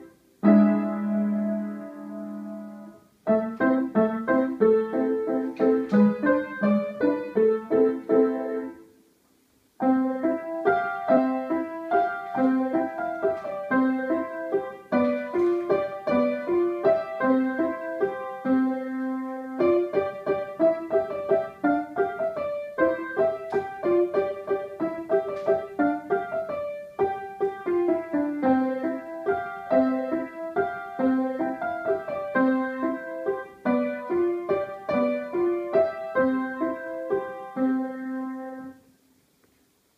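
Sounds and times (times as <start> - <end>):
upright piano played: 0.0 - 9.0, 9.8 - 39.0.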